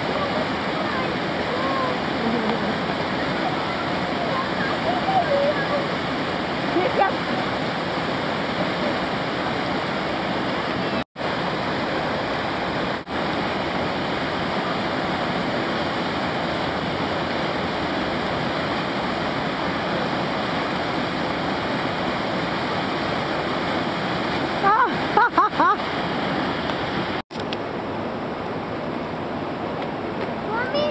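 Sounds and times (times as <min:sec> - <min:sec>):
river whitewater rushing: 0:00.0 - 0:30.9.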